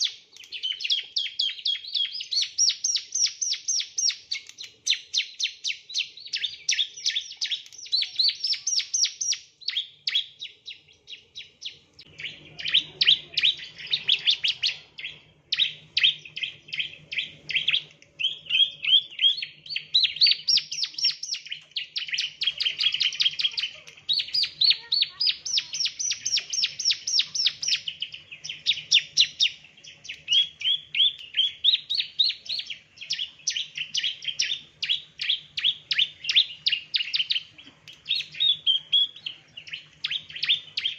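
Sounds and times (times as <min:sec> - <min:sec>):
bird singing rapid sharp chirps: 0:00.0 - 0:40.9.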